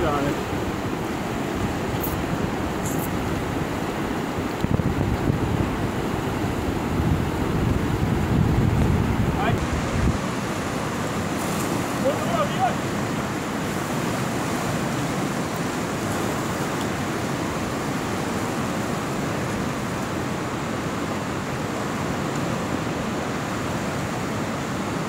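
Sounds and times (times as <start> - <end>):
river rushing over rapids: 0.0 - 25.0.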